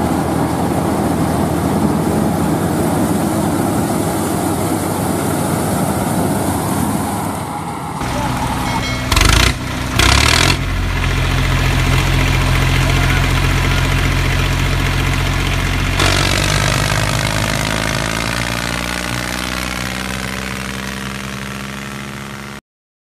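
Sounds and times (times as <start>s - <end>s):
diesel tractor engine idling: 0.0s - 22.5s.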